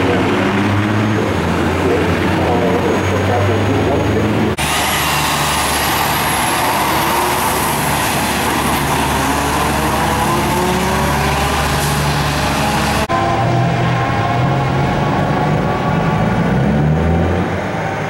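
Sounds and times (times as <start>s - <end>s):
diesel truck engines accelerating: 0.0s - 18.0s.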